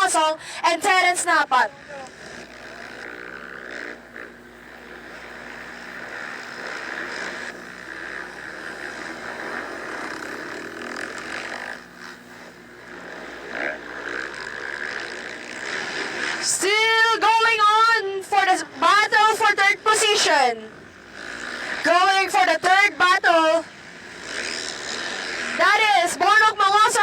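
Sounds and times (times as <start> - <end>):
distant motorbike engines revving: 0.0 - 27.0.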